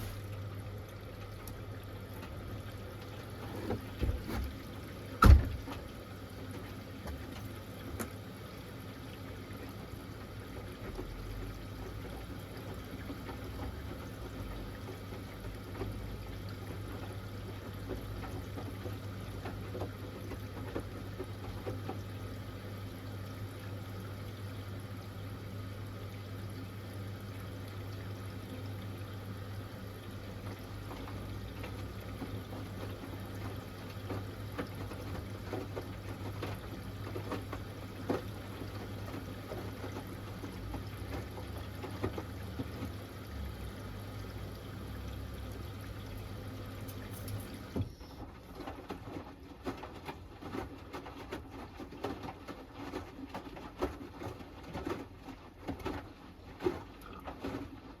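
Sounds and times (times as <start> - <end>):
water running into washing machine: 0.0 - 58.0.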